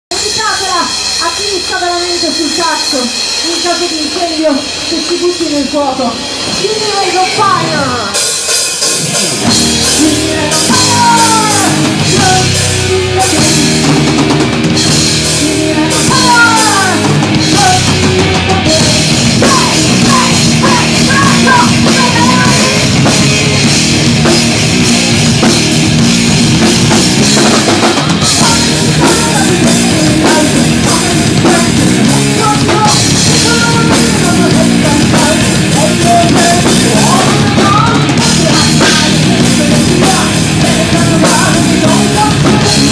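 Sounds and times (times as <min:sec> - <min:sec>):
bass guitar: 0:00.0 - 0:42.9
distorted electric guitars: 0:00.1 - 0:42.9
pounding drum kit: 0:00.1 - 0:42.9.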